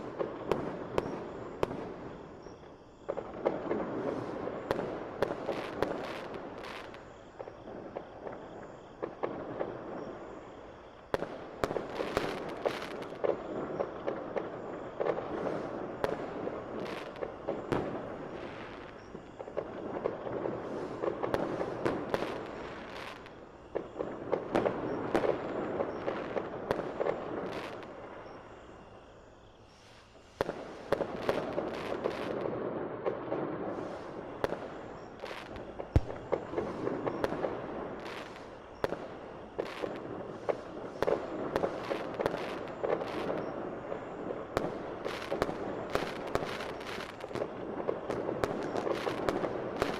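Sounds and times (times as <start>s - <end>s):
fireworks rumbling and crackling: 0.0s - 49.9s.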